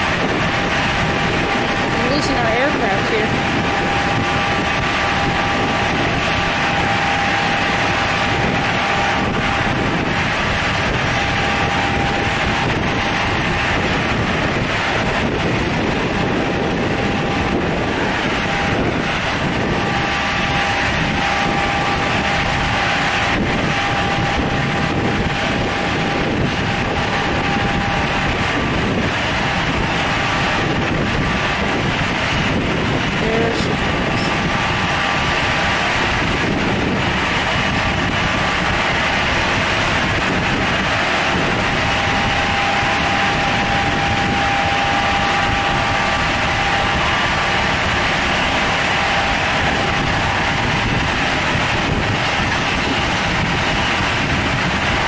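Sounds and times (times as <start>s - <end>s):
propeller aircraft engine drone: 0.0s - 55.0s
wind noise on microphone: 0.0s - 55.0s.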